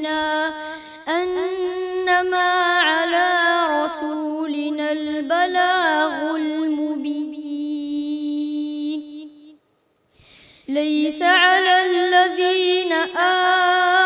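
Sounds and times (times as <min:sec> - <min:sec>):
boy chanting melodically: 0:00.0 - 0:09.5, 0:10.7 - 0:14.0.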